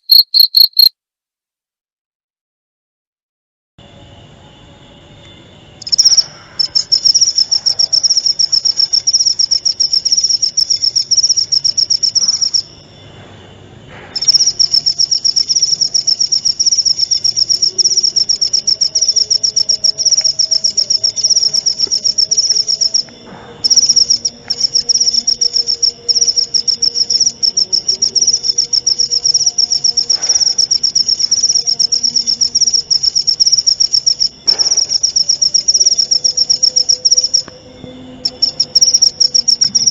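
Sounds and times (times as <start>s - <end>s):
cricket trilling: 0.0s - 0.9s, 3.8s - 39.9s.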